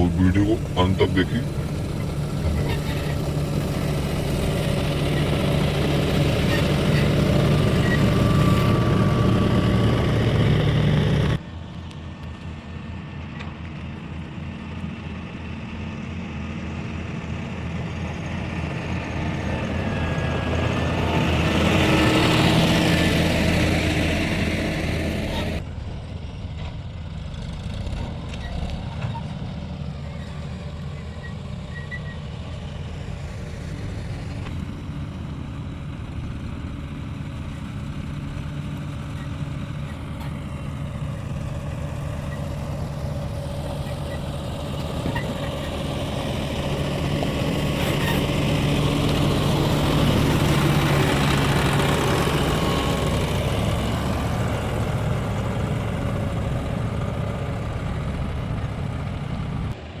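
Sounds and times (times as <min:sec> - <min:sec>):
diesel engine running: 0:00.0 - 0:11.4, 0:17.6 - 0:27.9, 0:29.0 - 1:00.0.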